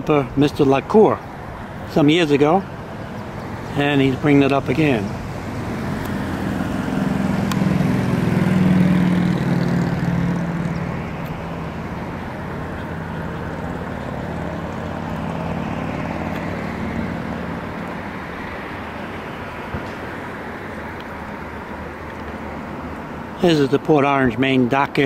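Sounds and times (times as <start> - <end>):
passing engine drone: 1.3 - 23.4.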